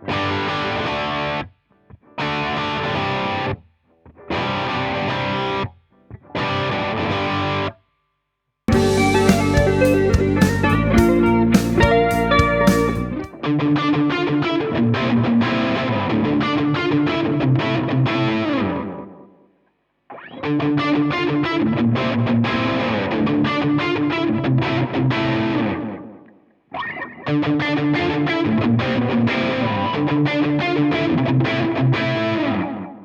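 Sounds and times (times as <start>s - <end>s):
electric guitar notes and chords: 0.0s - 1.5s, 2.1s - 7.7s, 8.7s - 19.3s, 20.1s - 33.0s.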